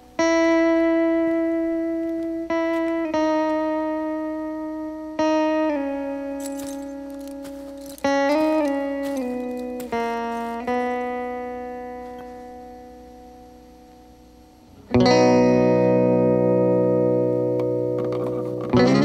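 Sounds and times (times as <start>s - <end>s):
guitar notes and chords: 0.0s - 19.0s.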